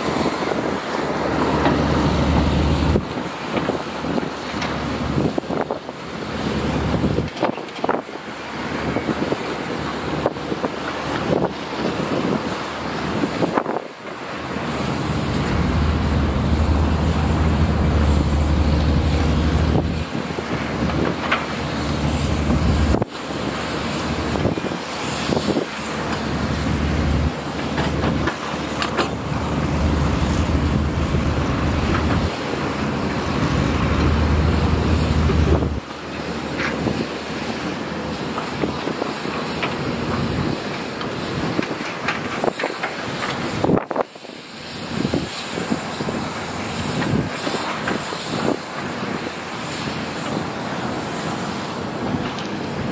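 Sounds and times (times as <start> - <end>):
heavy diesel engine working: 0.0 - 43.8, 44.4 - 52.9
wind noise on microphone: 0.0 - 52.9.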